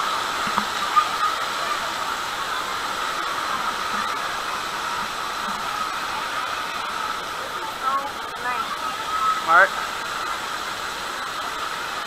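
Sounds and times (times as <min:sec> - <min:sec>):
water spraying and splashing: 0:00.0 - 0:12.0.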